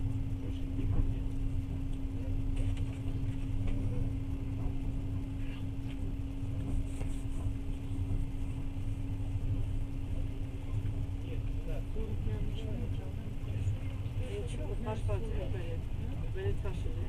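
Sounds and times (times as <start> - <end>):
train wheels rumbling on track: 0.0 - 2.4, 3.5 - 17.0
constant hum: 0.0 - 17.0.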